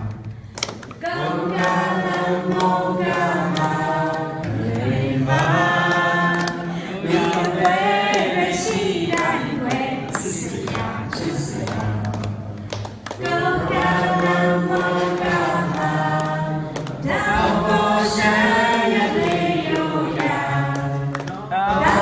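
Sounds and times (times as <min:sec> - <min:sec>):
choir singing held notes: 0:01.0 - 0:22.0.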